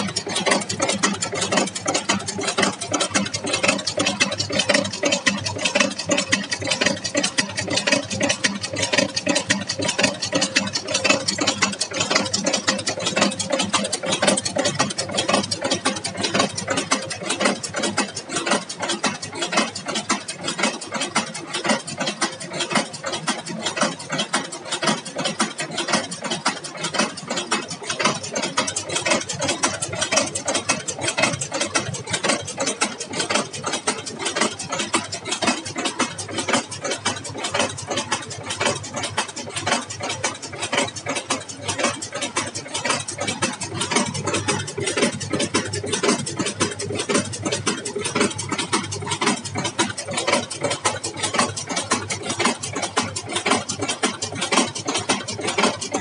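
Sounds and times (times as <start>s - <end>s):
machine metallic clatter: 0.0s - 56.0s.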